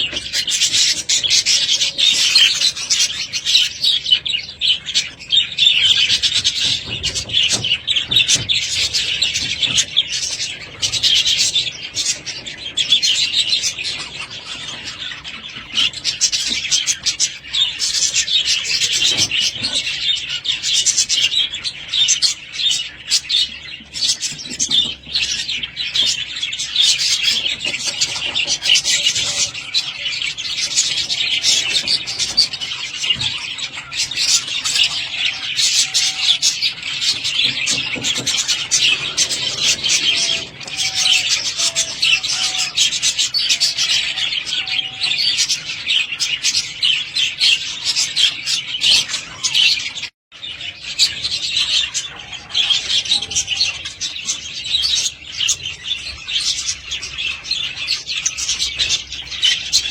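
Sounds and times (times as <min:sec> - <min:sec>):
budgerigars chattering and warbling: 0:00.0 - 0:59.9.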